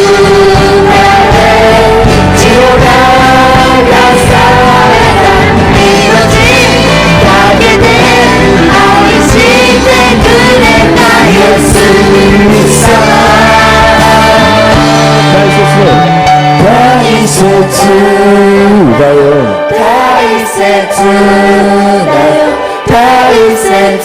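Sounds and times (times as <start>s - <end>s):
worship pop song with band: 0.0s - 24.0s.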